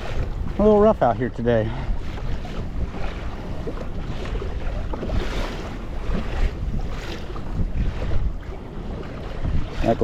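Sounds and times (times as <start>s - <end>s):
water slapping a boat hull: 0.0s - 10.0s
wind buffeting microphone: 0.0s - 10.0s.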